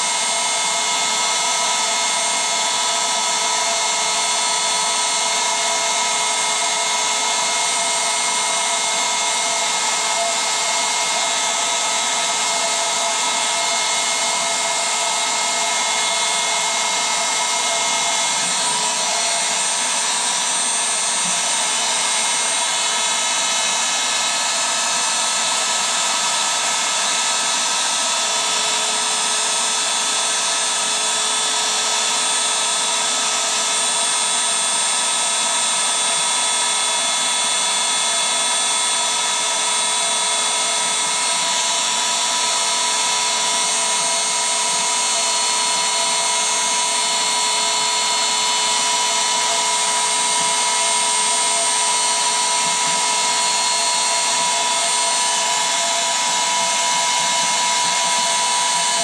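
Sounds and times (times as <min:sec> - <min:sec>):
electric air pump running: 0:00.0 - 0:59.0.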